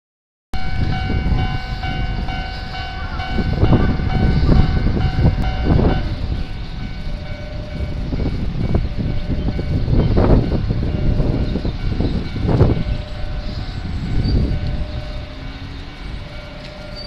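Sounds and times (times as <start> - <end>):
level crossing warning bell: 0.6 - 17.0
low rumble: 0.6 - 17.0.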